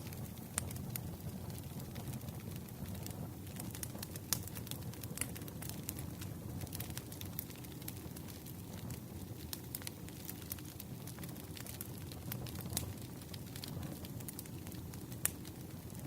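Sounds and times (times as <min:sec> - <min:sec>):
campfire flames rumbling: 0:00.0 - 0:16.0
wood crackling and popping: 0:00.0 - 0:16.0.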